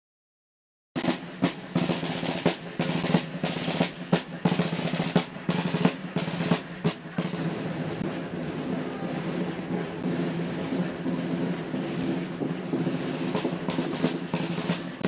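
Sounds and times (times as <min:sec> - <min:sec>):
marching snare drum: 0:01.0 - 0:15.0.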